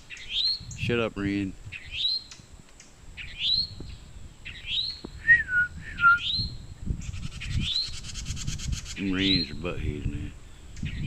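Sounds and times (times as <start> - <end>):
songbirds calling: 0.0 - 11.0.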